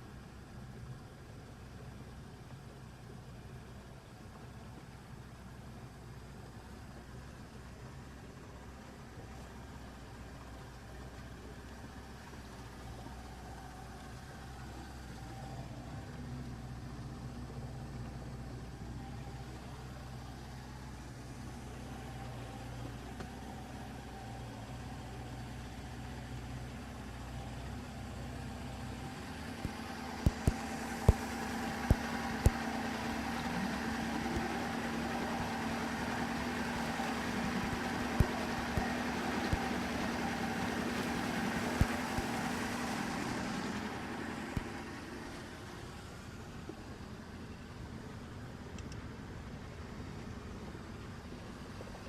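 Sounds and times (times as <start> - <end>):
engine idling: 0.0 - 52.0.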